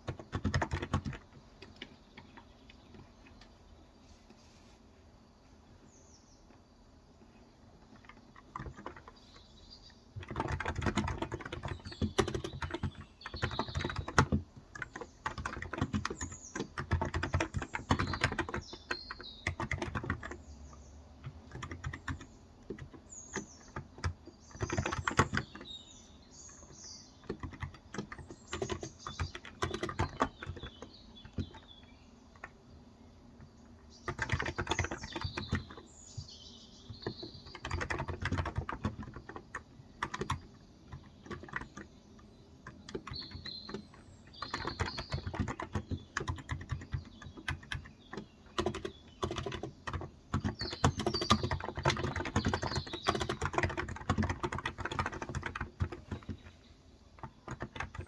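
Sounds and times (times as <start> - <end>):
typing on a keyboard: 0.0 - 3.6, 7.8 - 32.6, 33.3 - 58.0
birds chirping: 0.0 - 58.0.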